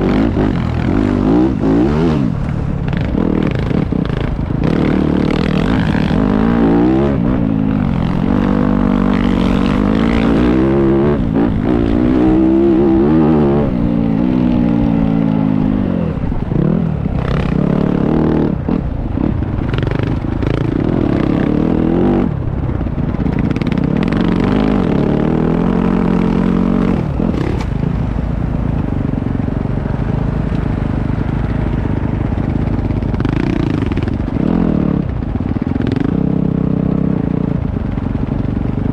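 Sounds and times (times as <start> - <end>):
motocross bike engine revving: 0.0 - 28.2, 29.8 - 38.9.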